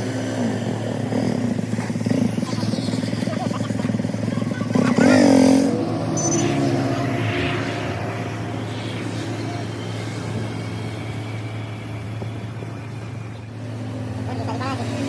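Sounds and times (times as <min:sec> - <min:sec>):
engine running with rattle: 0:00.0 - 0:15.0.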